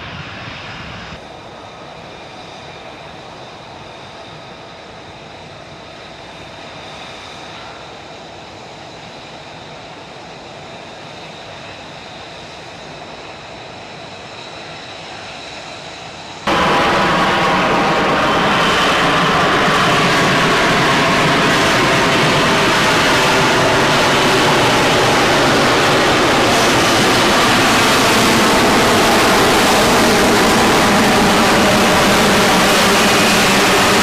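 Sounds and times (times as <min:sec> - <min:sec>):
jet engine noise: 0:00.0 - 0:34.0.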